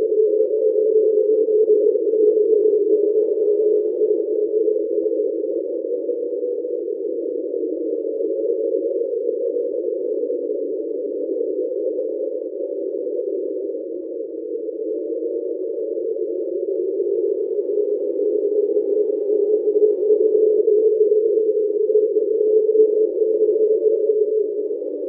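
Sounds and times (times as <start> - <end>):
steady underwater drone: 0.0 - 25.0.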